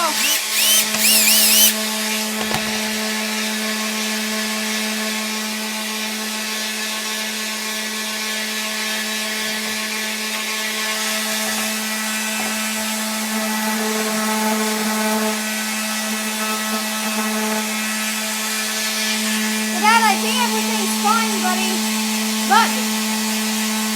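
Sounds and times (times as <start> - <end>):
power tool motor running: 0.0 - 23.9.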